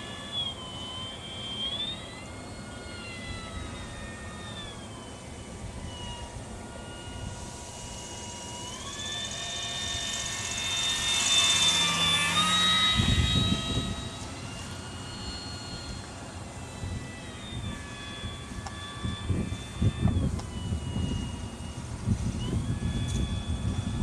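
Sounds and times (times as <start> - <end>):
model aircraft motor whining: 0.0 - 24.0.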